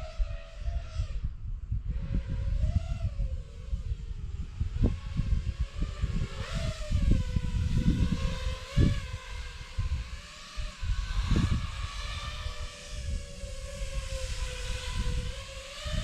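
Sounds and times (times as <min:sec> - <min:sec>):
drone motors whining: 0:00.0 - 0:16.0
low wind noise gusts: 0:00.0 - 0:16.0.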